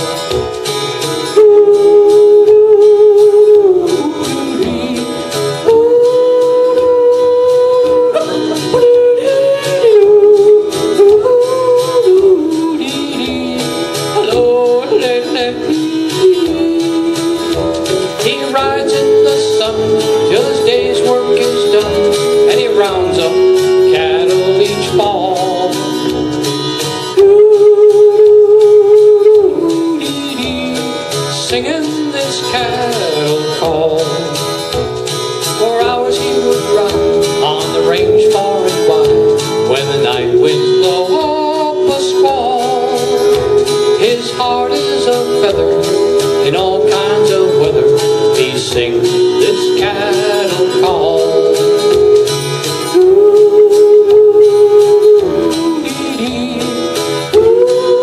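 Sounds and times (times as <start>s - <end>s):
country music with guitar: 0.0s - 58.0s
man yodeling: 1.3s - 34.6s, 35.6s - 58.0s.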